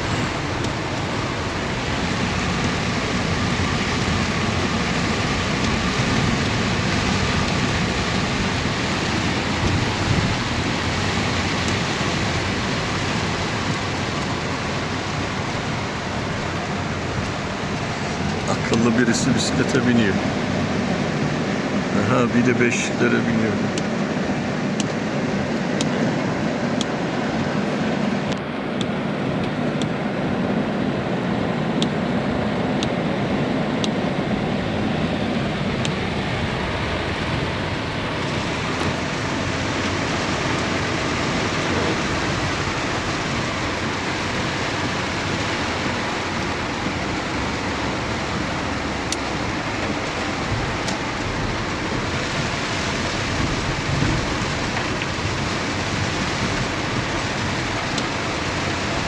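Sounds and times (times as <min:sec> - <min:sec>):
heavy rain pouring: 0:00.0 - 0:59.0
low engine hum: 0:00.0 - 0:59.0.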